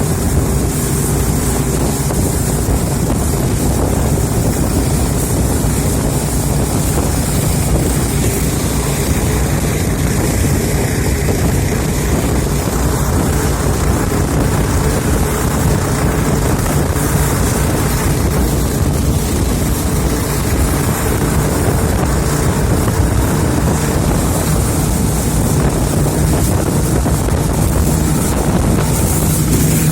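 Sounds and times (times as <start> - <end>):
motorboat engine running: 0.0 - 29.9
rushing water: 0.0 - 29.9
wind buffeting microphone: 0.0 - 29.9.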